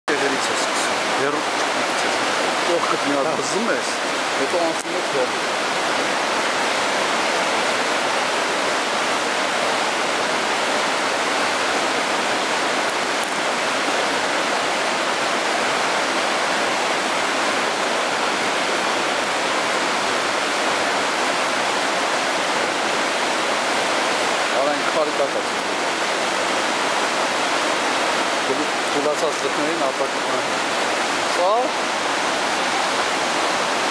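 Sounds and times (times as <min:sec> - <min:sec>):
river rapid rushing: 0:00.1 - 0:33.9.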